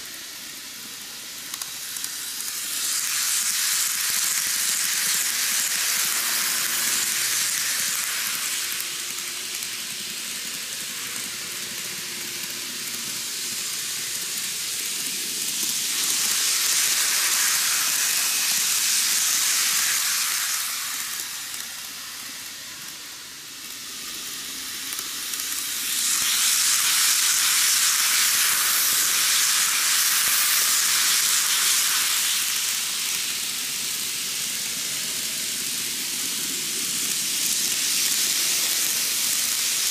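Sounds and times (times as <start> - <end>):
model trains rattling on rails: 0.0 - 39.9.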